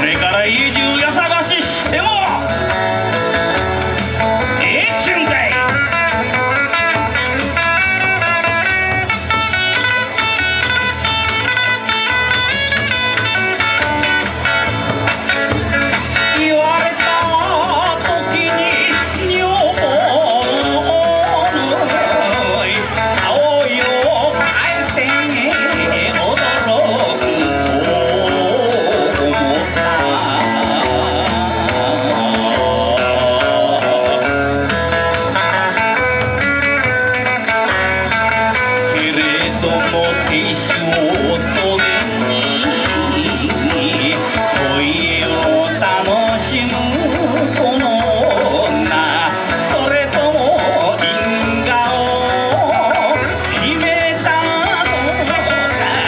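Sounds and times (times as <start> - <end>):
electric guitar melody: 0.0 - 56.0
steady beat: 0.0 - 56.0.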